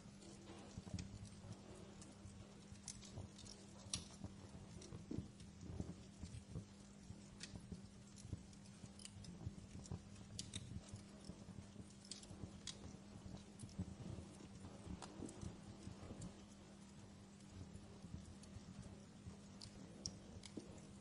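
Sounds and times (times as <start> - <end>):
fire crackling in a fireplace: 0.0 - 21.0
low steady hum: 0.0 - 21.0.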